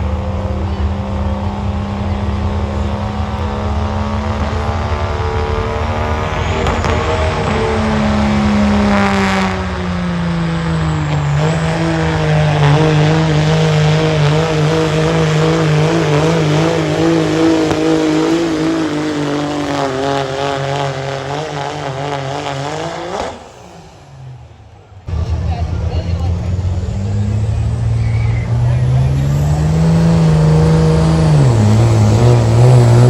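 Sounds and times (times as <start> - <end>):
diesel truck engine under load: 0.0 - 33.0.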